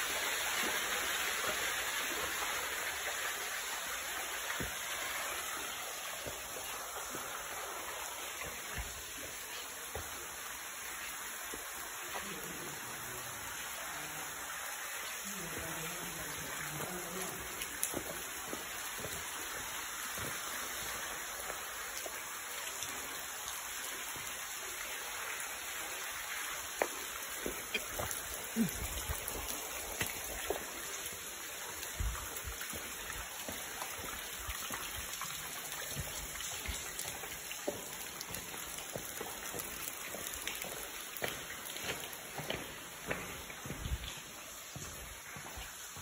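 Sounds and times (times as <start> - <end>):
sharp water drips: 0.0 - 46.0.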